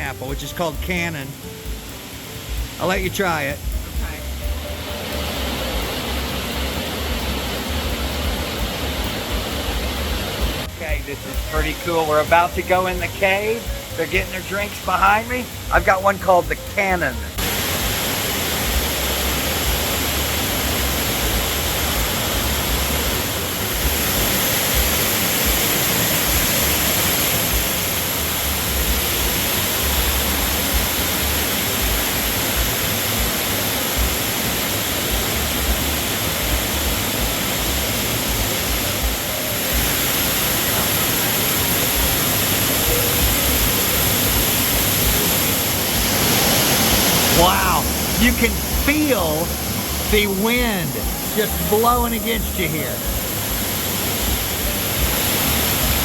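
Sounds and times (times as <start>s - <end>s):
loud steady rushing noise: 0.0s - 56.0s.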